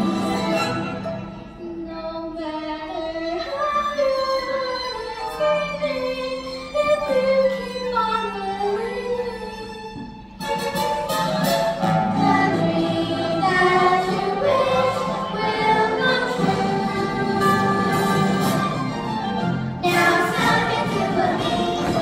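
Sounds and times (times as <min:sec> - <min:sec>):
musical accompaniment: 0:00.0 - 0:22.0.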